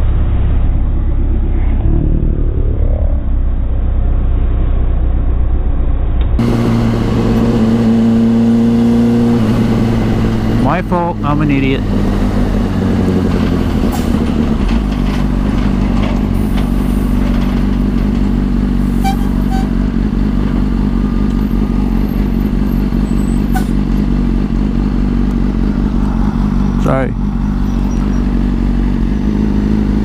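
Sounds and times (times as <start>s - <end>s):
motorcycle engine running low revs: 0.0s - 30.0s.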